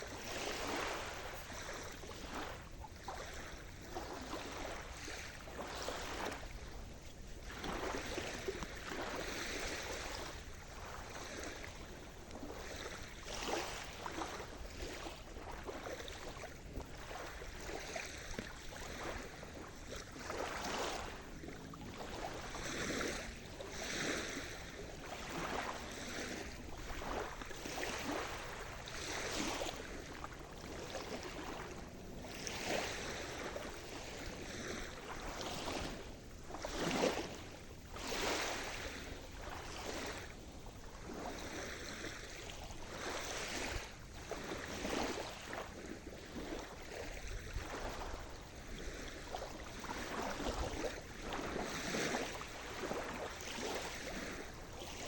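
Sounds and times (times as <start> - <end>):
small waves breaking: 0.0 - 55.0.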